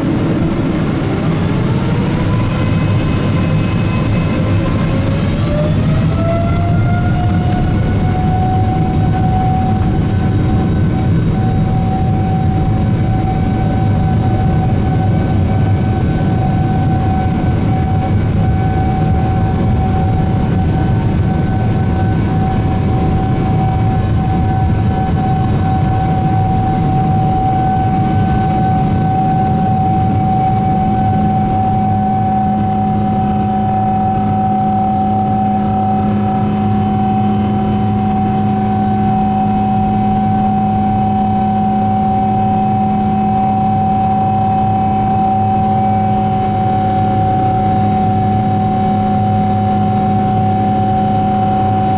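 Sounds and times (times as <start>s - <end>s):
jet engine fan whine: 0.0s - 51.9s
jet engines rumbling: 0.0s - 51.9s
low hum: 0.0s - 51.9s.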